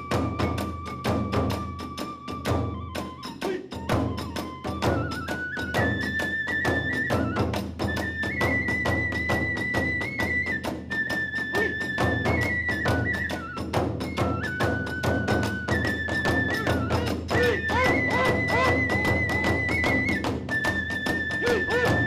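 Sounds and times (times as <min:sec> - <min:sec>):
bamboo flute: 0:00.0 - 0:22.0
drums beating: 0:00.0 - 0:22.0.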